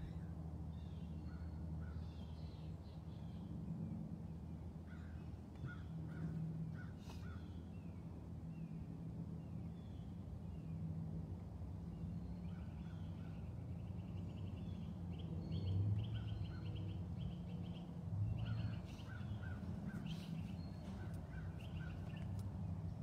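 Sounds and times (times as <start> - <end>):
songbird singing chirps: 0.0 - 23.0.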